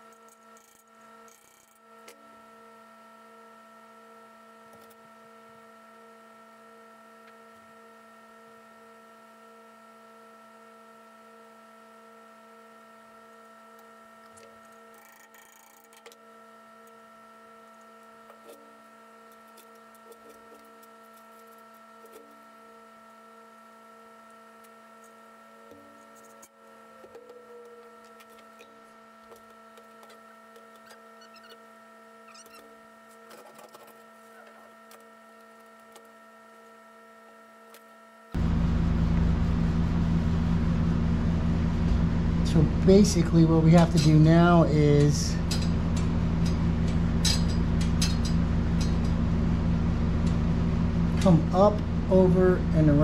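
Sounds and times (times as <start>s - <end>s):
steady electrical hum: 0.0s - 53.0s.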